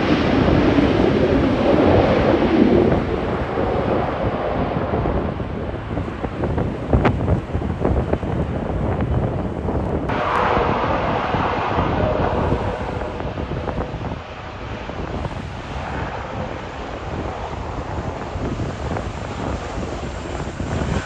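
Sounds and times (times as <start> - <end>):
airliner engines: 0.0 - 21.0
wind buffeting microphone: 0.0 - 21.0.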